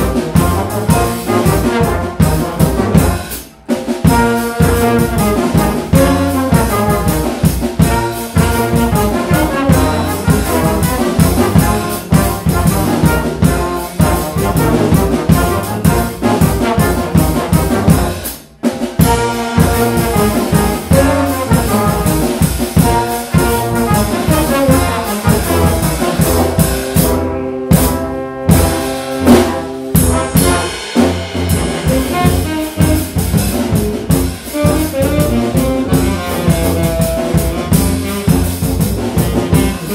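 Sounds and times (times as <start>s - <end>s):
brass ensemble playing jazz: 0.0s - 39.9s
drum kit: 0.0s - 39.9s.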